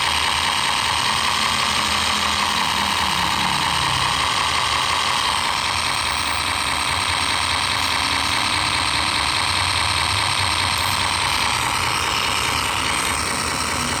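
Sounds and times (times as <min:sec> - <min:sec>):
truck engine idling from small speaker: 0:00.0 - 0:14.0.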